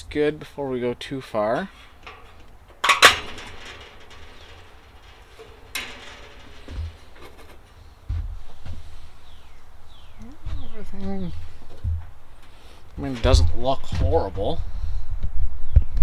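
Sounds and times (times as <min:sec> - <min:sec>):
low rumbling handling noise: 0:00.0 - 0:16.0
ringing metal clanks: 0:00.7 - 0:15.3
dull knocks: 0:01.7 - 0:15.9.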